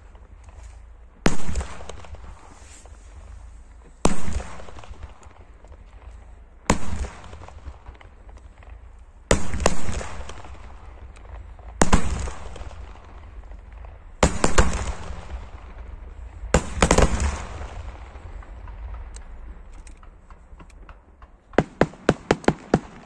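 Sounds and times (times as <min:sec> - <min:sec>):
fireworks bursting with echo: 0:00.0 - 0:23.0.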